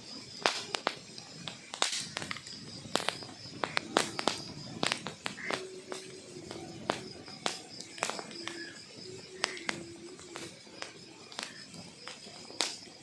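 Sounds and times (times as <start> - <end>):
burning logs crackling: 0.0 - 13.0.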